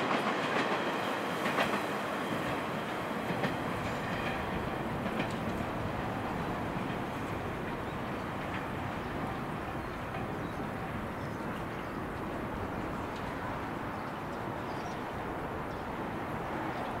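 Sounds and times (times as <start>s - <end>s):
distant electric train rumble: 0.0s - 17.0s.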